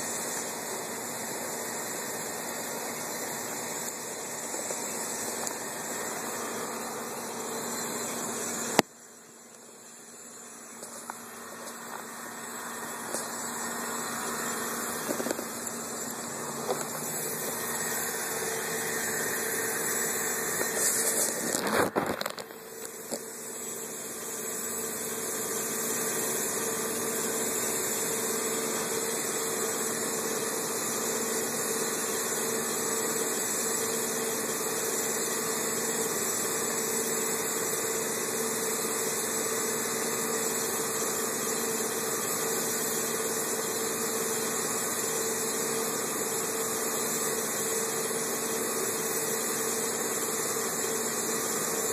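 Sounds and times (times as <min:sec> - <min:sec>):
even hiss: 0:00.0 - 0:51.9
machine hum: 0:00.0 - 0:51.9.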